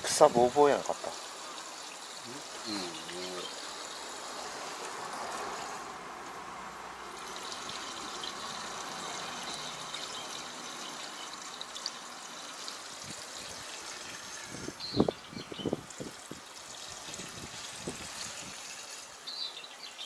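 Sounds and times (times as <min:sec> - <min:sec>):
fuel pouring into tank: 0:00.0 - 0:19.7.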